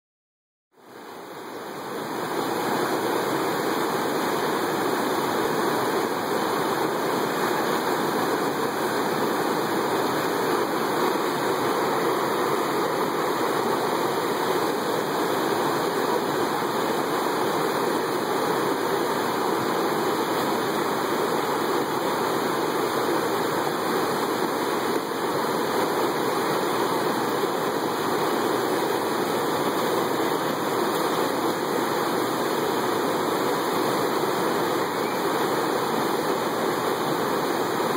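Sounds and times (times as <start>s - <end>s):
whitewater rushing: 0.8s - 37.9s.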